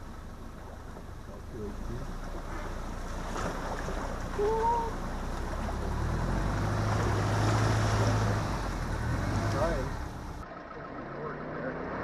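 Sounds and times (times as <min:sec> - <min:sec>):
car engine pulling: 0:00.0 - 0:12.0
water splashing and sloshing: 0:00.0 - 0:12.0.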